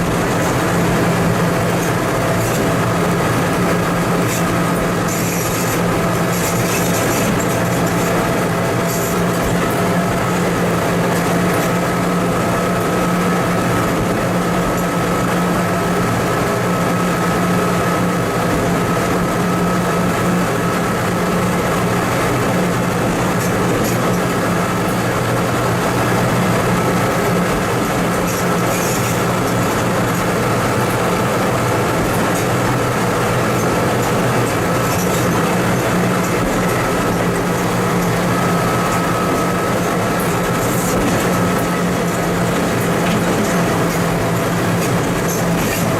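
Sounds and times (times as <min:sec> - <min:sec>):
high whine: 0:00.0 - 0:45.9
motor car engine drone: 0:00.0 - 0:45.9.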